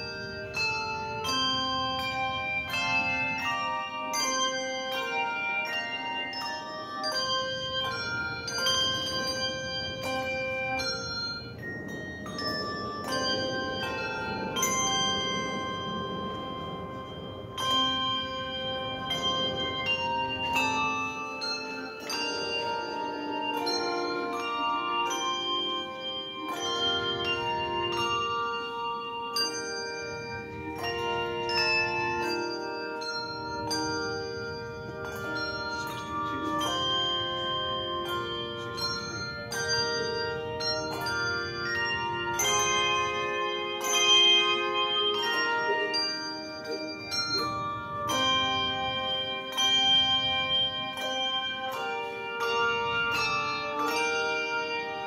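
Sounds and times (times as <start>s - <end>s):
handbell choir playing: 0.0s - 55.0s.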